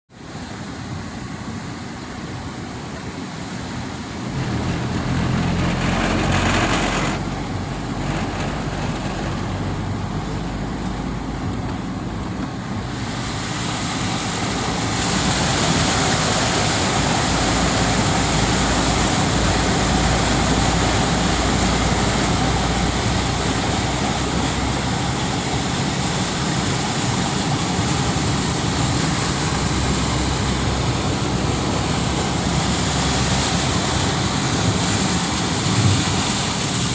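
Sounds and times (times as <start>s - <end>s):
floodwater rushing: 0.2s - 36.9s
low engine hum: 0.2s - 36.9s.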